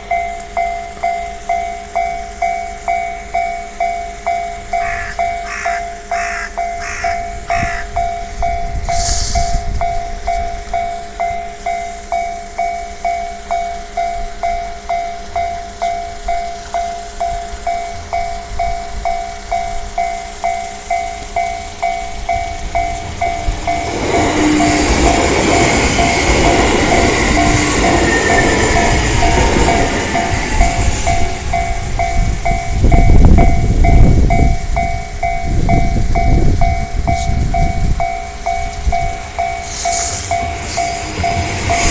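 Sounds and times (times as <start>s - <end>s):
train running over crossing: 0.0s - 41.9s.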